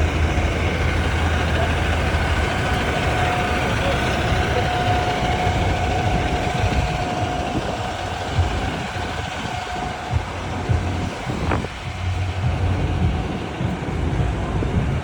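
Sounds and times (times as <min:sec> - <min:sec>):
steady hum: 0:00.0 - 0:15.0
vehicle engines idling: 0:00.0 - 0:15.0.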